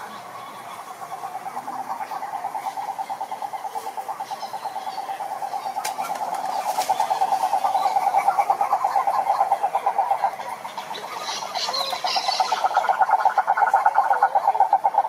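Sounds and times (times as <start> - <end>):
frog trilling: 0.0 - 15.0.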